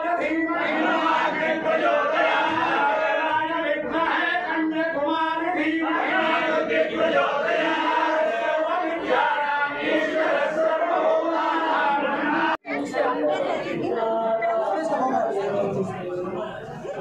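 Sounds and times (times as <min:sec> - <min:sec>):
voices chanting in unison: 0:00.0 - 0:14.5.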